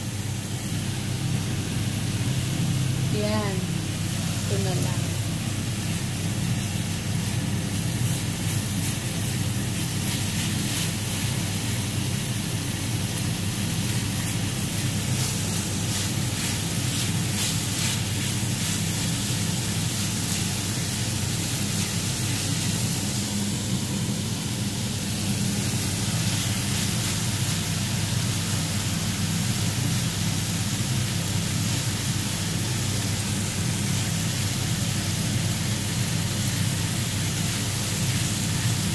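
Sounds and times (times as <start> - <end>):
steady low hum: 0.0 - 35.9
meat sizzling in a pan: 0.0 - 38.9.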